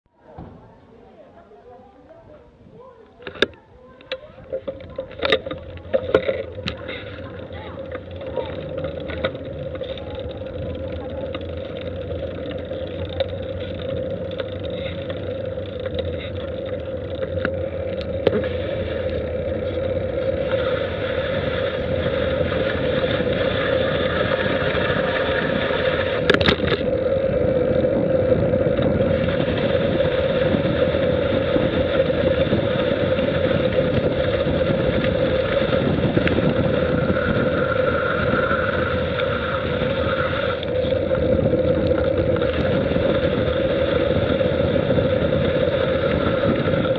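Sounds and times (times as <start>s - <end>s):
wind and road noise: 0.1s - 46.9s.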